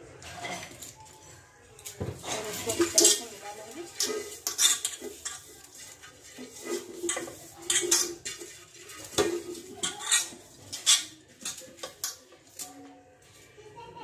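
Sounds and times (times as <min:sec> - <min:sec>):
metallic clinks and scrapes on pot: 0:00.1 - 0:12.8.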